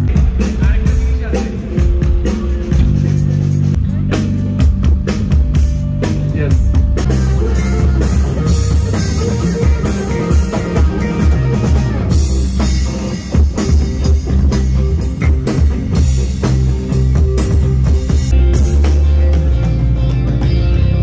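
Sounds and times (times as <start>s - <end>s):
drum kit hits: 0.0s - 21.0s
electric bass notes: 0.0s - 21.0s
electric guitar: 0.0s - 21.0s.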